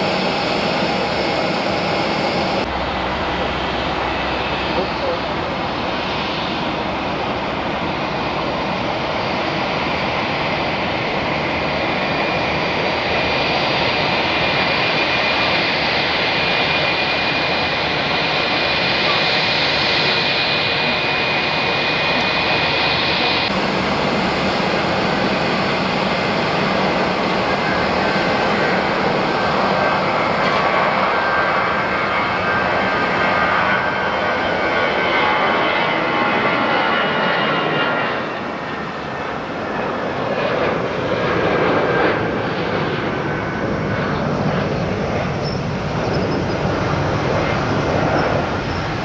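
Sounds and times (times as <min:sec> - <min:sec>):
jet engines at takeoff thrust: 0:00.0 - 0:49.0
jet engines taxiing with whine: 0:00.0 - 0:49.0.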